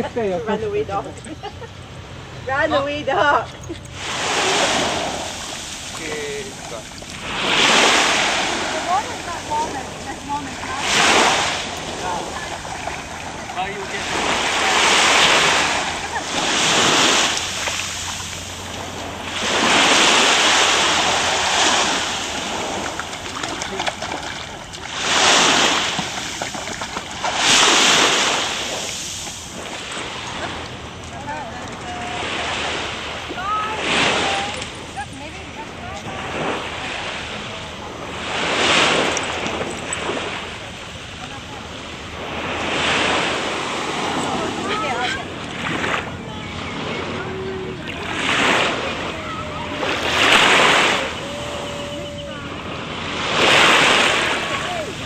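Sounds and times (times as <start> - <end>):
small waves breaking on a beach: 0.0 - 55.0
steady sea wash: 0.0 - 55.0
surf hiss: 4.0 - 55.0.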